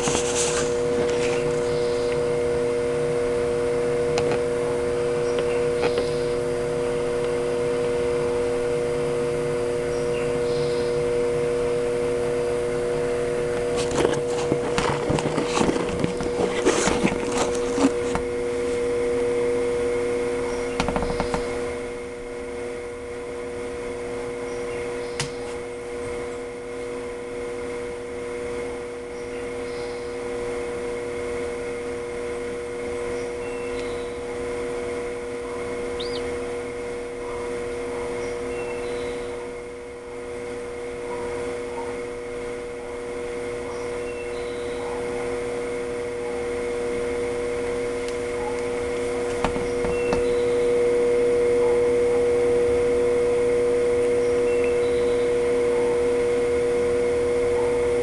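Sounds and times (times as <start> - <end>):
incubator fan humming: 0.0 - 58.0.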